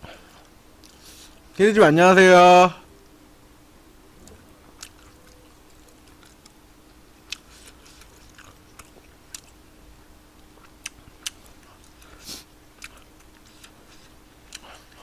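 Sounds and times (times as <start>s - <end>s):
faint steady hum: 0.0s - 15.0s
close-mic chewing: 0.2s - 1.5s, 4.2s - 15.0s.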